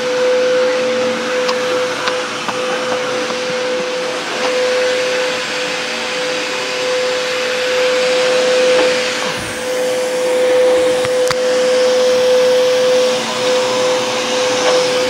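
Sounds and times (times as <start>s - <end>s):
electric motor whirring: 0.0s - 15.0s.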